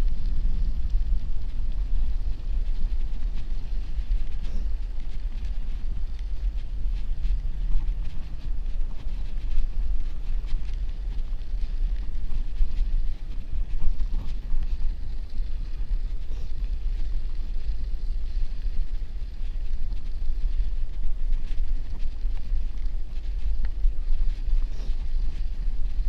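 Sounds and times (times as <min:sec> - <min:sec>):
bicycle tyres rolling on snow: 0:00.0 - 0:26.0
wind rumbling on microphone: 0:00.0 - 0:26.0.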